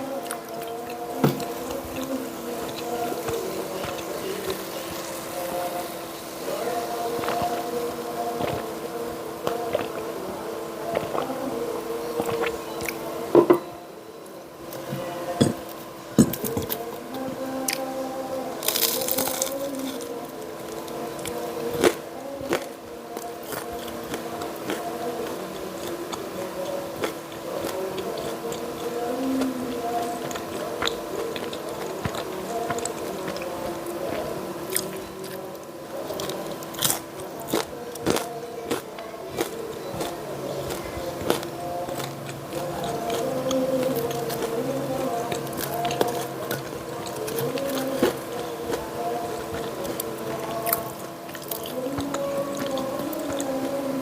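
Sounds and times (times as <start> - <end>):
chewing and crunching crispy food: 0.0 - 54.0
steady low hum: 0.0 - 54.0.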